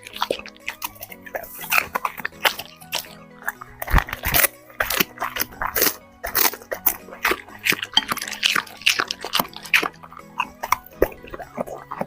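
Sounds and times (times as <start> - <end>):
dog chewing and smacking: 0.0 - 12.0
faint background music: 0.0 - 12.0.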